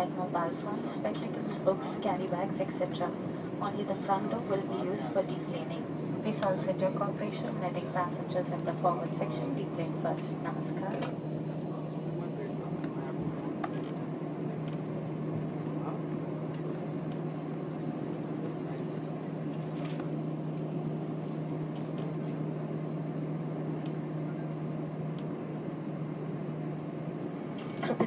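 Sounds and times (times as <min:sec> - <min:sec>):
airliner cabin engine hum: 0:00.0 - 0:28.0.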